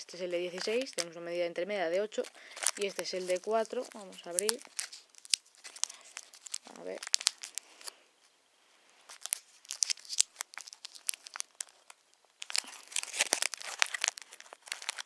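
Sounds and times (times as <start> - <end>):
plastic packaging crinkling: 0.0 - 1.2, 1.8 - 8.0, 9.0 - 15.0.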